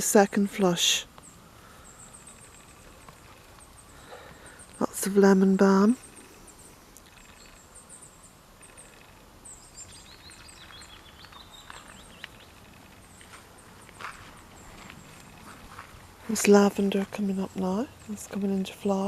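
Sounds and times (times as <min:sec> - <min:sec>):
small birds chirping: 0:00.0 - 0:19.0
soft outdoor hush: 0:00.0 - 0:19.0.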